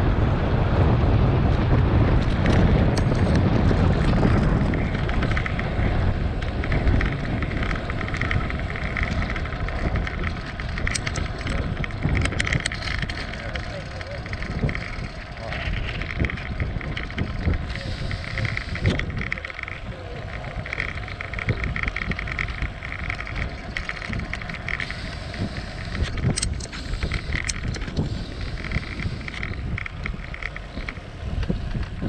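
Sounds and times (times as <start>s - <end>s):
bicycle tyres rumbling on pavement: 0.0s - 32.0s
wind buffeting microphone: 0.0s - 32.0s
rapid high ticking: 3.0s - 32.0s
sharp clicks: 4.0s - 32.0s.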